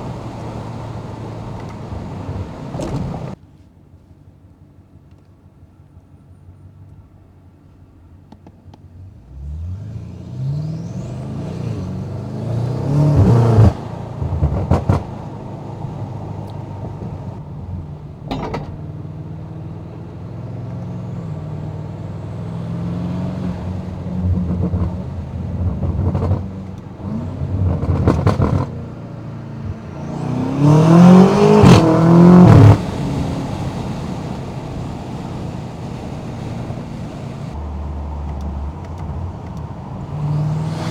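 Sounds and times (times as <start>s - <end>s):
car engine accelerating: 0.0s - 3.4s, 9.0s - 40.9s
exhaust cracks: 0.0s - 3.4s, 10.8s - 40.9s.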